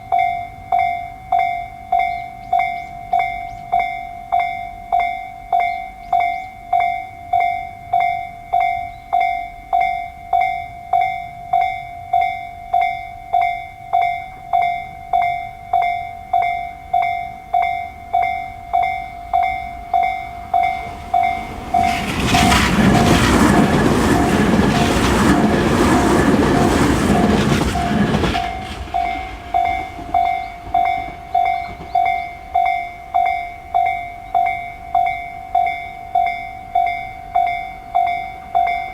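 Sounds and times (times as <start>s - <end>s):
level crossing warning bell: 0.0s - 38.9s
train rumble: 0.0s - 38.9s.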